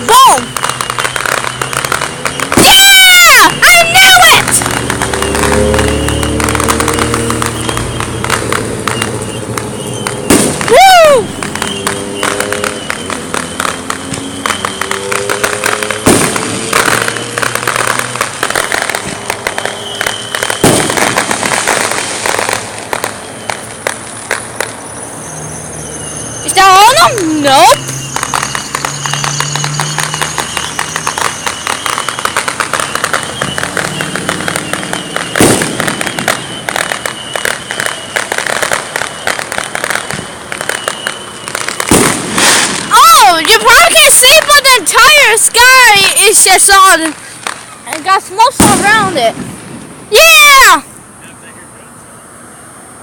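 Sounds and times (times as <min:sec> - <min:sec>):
firework booms: 0:00.0 - 0:24.9, 0:25.7 - 0:50.8
firecrackers crackling: 0:00.0 - 0:53.0.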